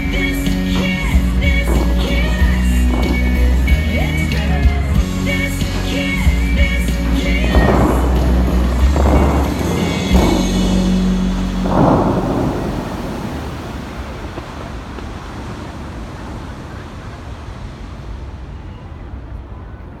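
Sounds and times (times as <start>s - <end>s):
fountain water rushing: 0.0s - 20.0s
wind rumble on microphone: 0.0s - 20.0s.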